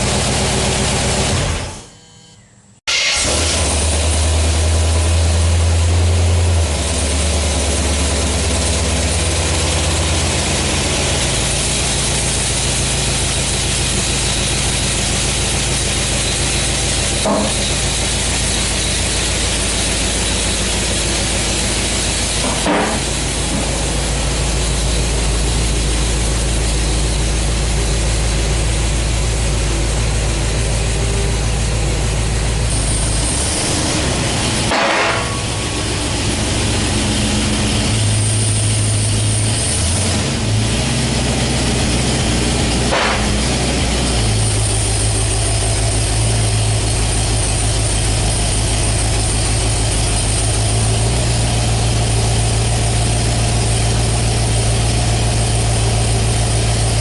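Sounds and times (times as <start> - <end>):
car engine idling: 0.0 - 1.7, 2.9 - 57.0.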